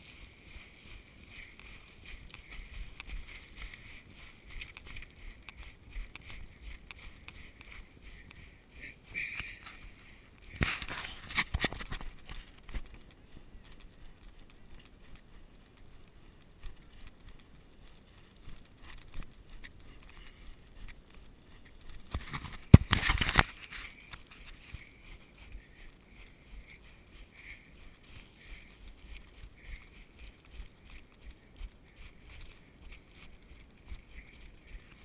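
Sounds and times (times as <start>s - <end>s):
running footsteps on gravel: 0.0s - 35.0s.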